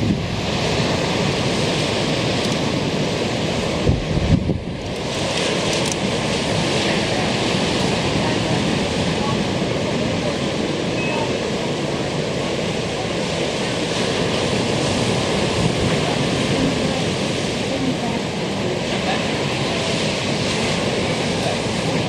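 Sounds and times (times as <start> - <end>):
ocean surf breaking on beach: 0.0 - 22.0
wind on microphone: 0.0 - 22.0.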